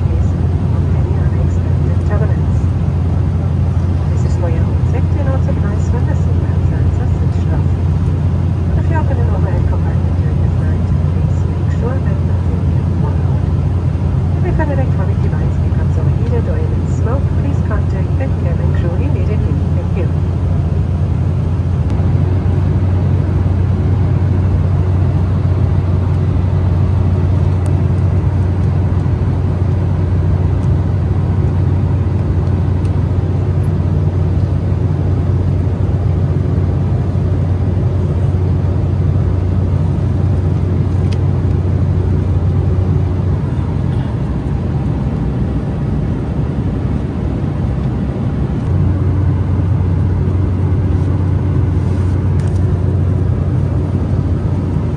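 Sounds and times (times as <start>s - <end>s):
low engine hum: 0.0s - 54.9s.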